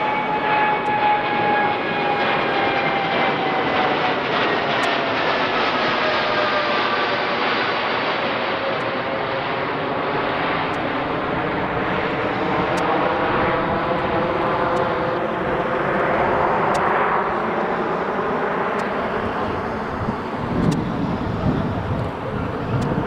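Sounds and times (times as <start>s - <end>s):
loud jet roar: 0.0s - 23.0s.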